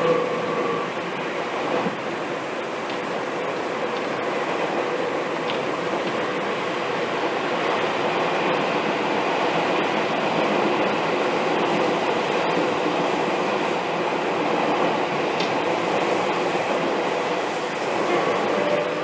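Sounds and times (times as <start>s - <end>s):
train wheels running on track: 0.0s - 19.0s.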